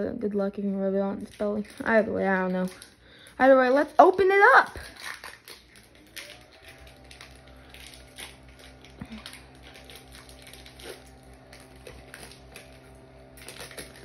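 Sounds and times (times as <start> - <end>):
foil wrapper crinkling and tearing: 1.2 - 14.0.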